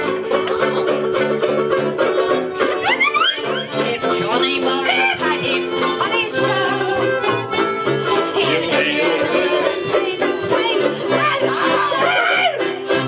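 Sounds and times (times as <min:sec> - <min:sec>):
banjos playing: 0:00.0 - 0:13.0
piano accordion: 0:00.0 - 0:13.0.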